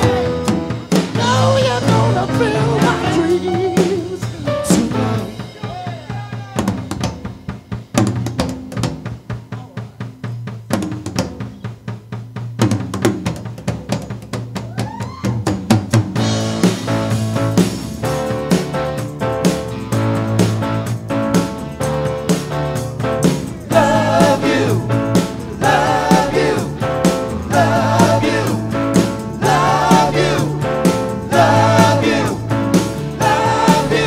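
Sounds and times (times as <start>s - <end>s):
drum kit solo with cymbals: 0.0s - 34.0s
live rock band: 0.0s - 34.0s.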